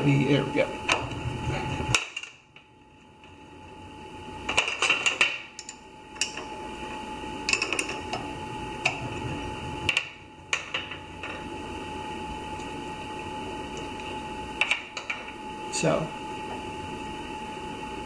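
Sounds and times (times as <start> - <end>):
lathe electrical hum: 0.0 - 18.0.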